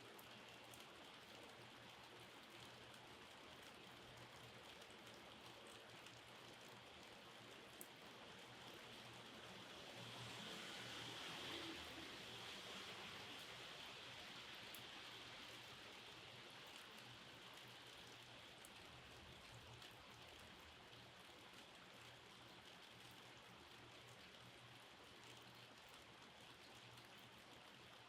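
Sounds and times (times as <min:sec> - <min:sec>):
raindrop ticks: 0:00.0 - 0:10.3, 0:12.7 - 0:28.0
faint steady rain: 0:00.0 - 0:28.0.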